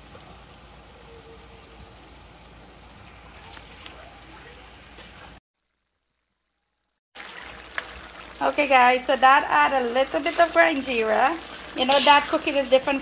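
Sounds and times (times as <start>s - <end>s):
pumpkin frying in hot oil: 0.0s - 13.0s.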